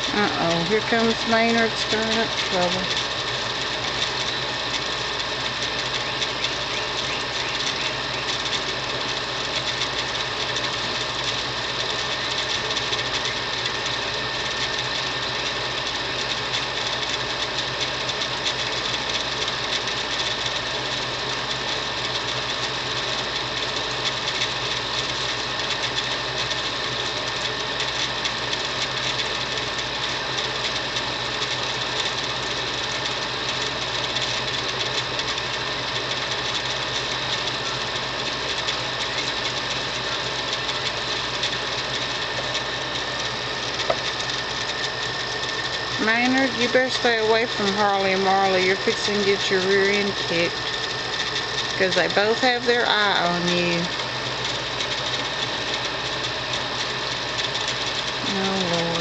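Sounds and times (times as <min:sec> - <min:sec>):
small motor whirring: 0:00.0 - 0:59.0.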